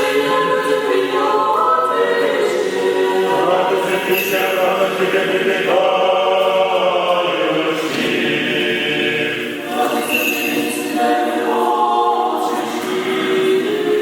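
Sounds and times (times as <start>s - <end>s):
choir singing a cappella chant: 0.0s - 14.0s.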